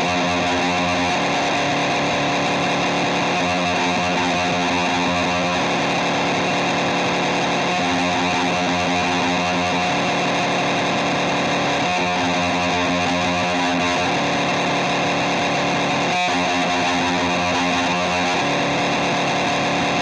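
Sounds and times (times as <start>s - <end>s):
droning distorted guitar music: 0.0s - 20.0s.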